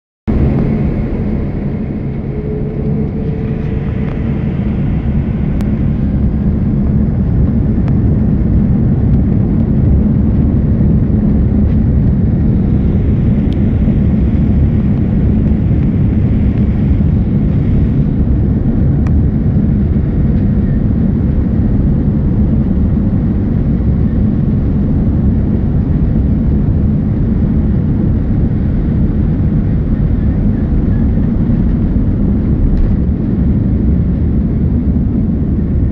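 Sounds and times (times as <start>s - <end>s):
aircraft rolling noise: 0.3s - 35.9s
jet engines rumbling on takeoff: 0.3s - 35.9s.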